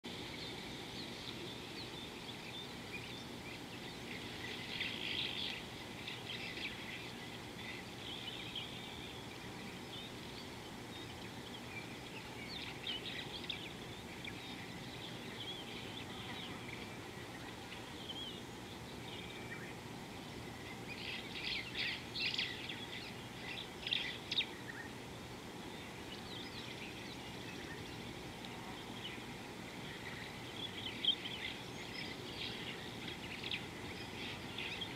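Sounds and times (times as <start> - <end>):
birds chirping: 0.1 - 34.9
steady background hiss: 0.1 - 34.9.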